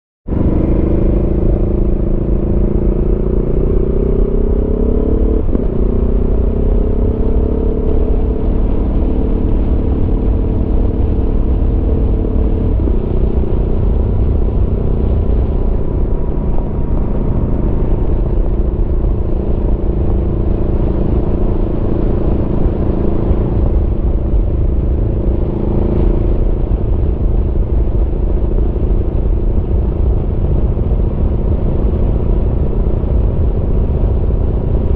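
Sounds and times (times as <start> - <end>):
motorcycle engine revving: 0.3 - 34.9
steady low rumble: 0.3 - 34.9.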